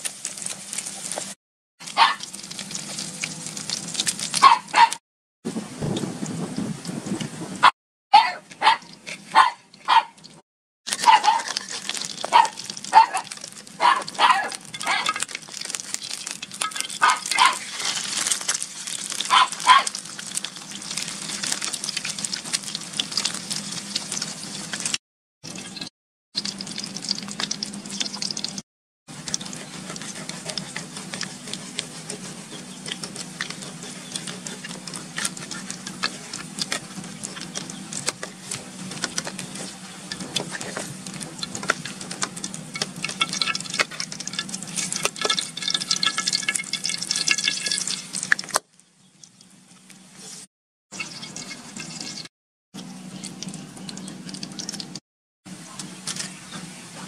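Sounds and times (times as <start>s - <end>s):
eggs sizzling in oil: 0.0s - 4.9s, 8.9s - 55.0s.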